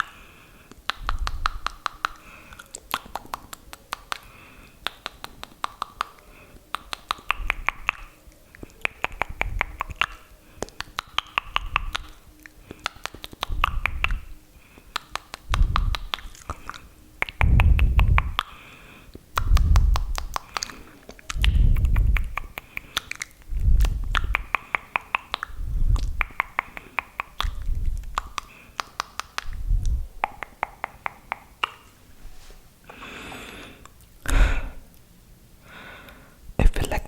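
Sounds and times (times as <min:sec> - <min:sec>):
wet mouth clicks and smacks: 0:00.0 - 0:31.9.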